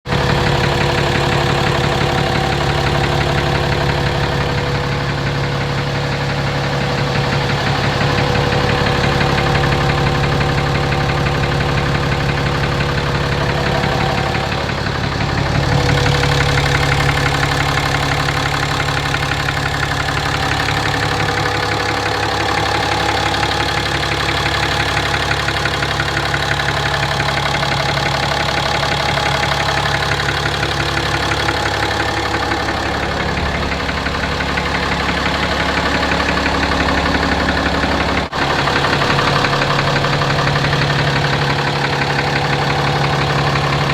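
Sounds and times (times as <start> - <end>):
diesel engine idling with knock: 0.0 - 43.9.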